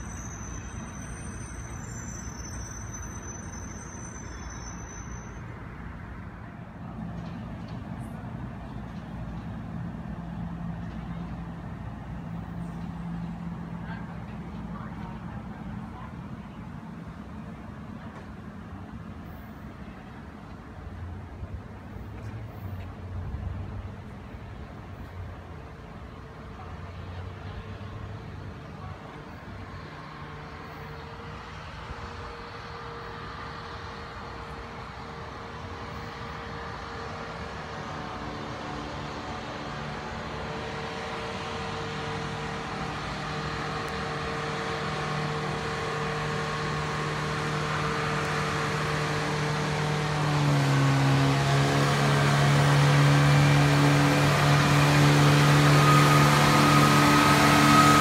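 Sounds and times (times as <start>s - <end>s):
rail crane engine running: 0.0s - 58.0s.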